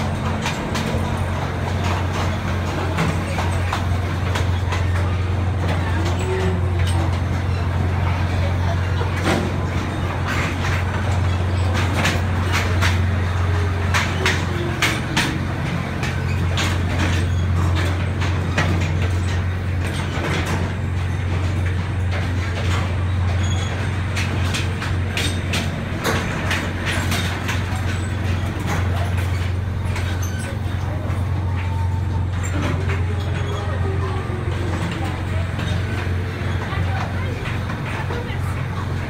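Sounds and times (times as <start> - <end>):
railway car rumbling in metal tunnel: 0.0 - 39.0
wheels clicking and rattling: 0.0 - 39.0.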